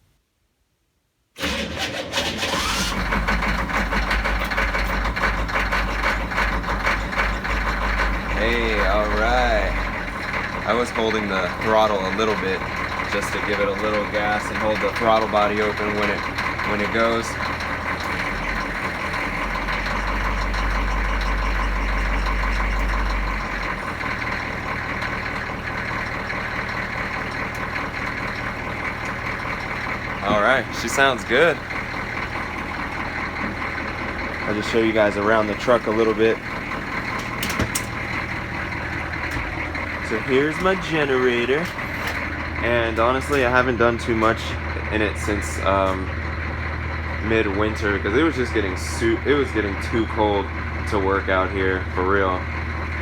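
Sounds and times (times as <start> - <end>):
diesel engine starting and running: 1.4 - 53.0.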